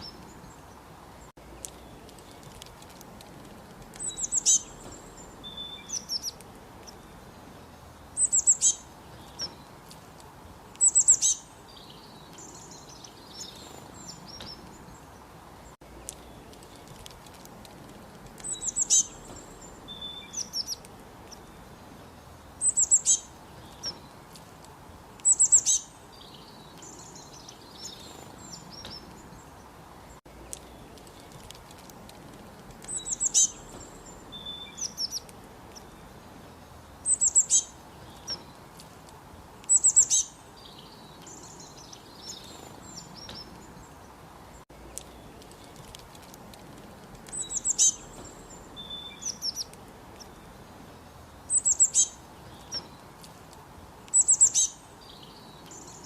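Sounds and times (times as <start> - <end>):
songbirds chirping and trilling: 0.0 - 56.0
steady background hiss: 0.0 - 56.0.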